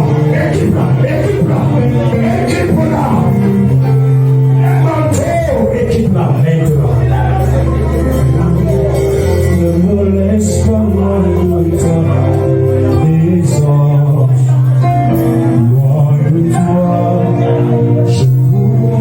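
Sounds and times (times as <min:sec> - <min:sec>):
man singing: 0:00.0 - 0:19.0
slow worship band music: 0:00.0 - 0:19.0.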